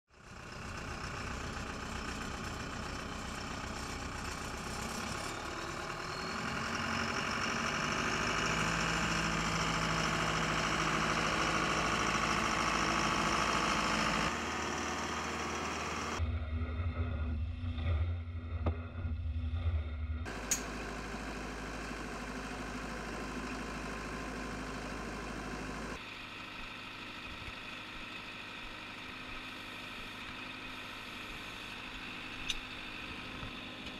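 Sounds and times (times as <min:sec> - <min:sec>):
drilling rig engine running: 0:00.2 - 0:33.9.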